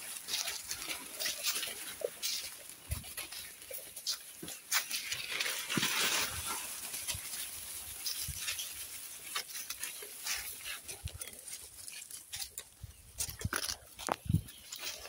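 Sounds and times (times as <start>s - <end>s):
goats crunching leaves: 0.0s - 15.0s
leaves rustling: 0.0s - 15.0s.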